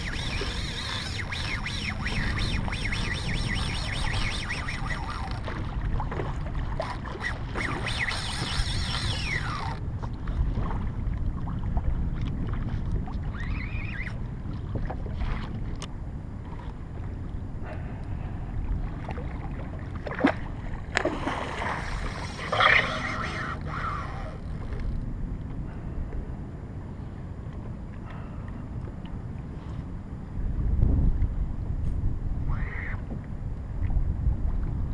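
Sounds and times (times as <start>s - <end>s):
water sloshing against hull: 0.0s - 34.9s
wind buffeting microphone: 0.0s - 34.9s.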